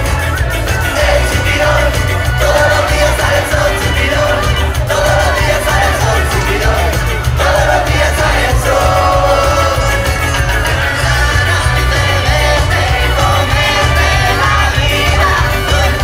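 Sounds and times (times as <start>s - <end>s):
amplified music with bass beat: 0.0s - 16.0s
person singing: 0.0s - 16.0s.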